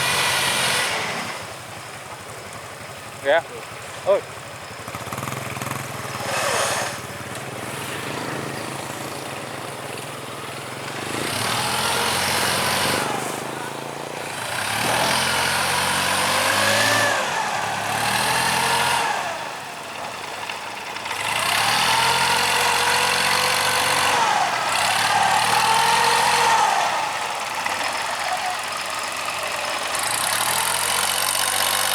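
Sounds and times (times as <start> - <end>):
motor engine revving: 0.0 - 2.2, 3.3 - 31.9.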